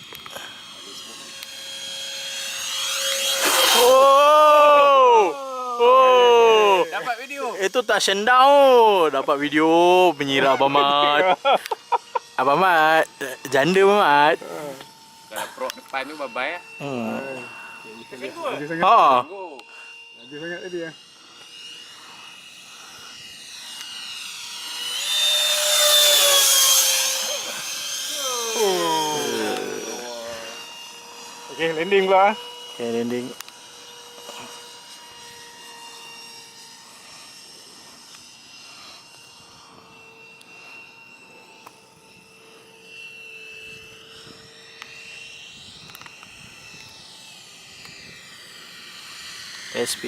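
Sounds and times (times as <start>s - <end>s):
rc jet whining past: 0.0s - 50.0s.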